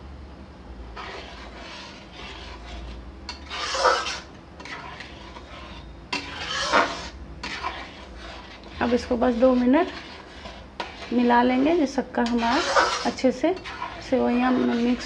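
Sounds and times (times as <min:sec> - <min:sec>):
metal spatula scraping metal pan: 0:01.0 - 0:15.0.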